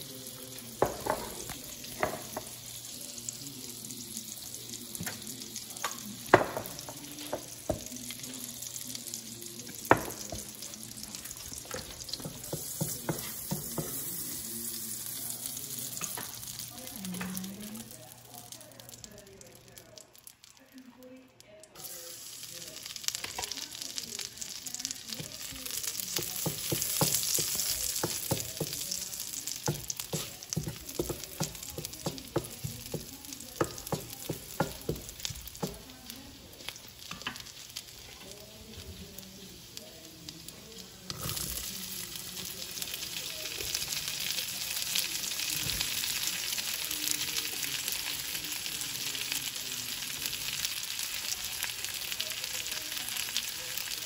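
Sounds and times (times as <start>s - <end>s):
sizzling in hot oil: 0.0s - 20.9s, 21.7s - 54.0s.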